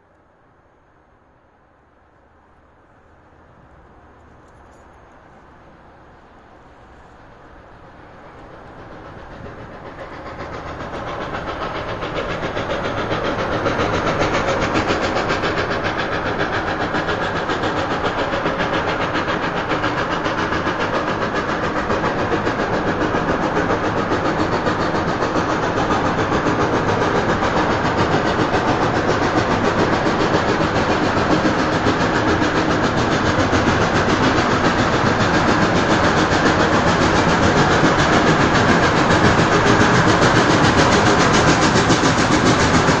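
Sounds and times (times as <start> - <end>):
steam locomotive chuffing: 0.0 - 43.0.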